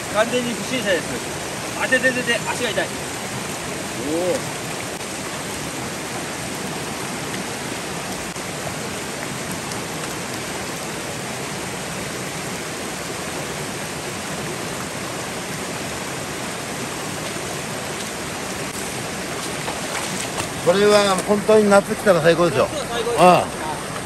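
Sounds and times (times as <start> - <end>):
stream flowing over rocks: 0.0 - 24.0.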